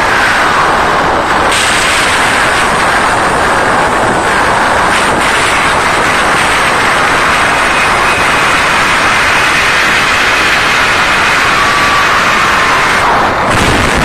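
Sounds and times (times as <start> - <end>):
crowd screaming: 0.0 - 14.0.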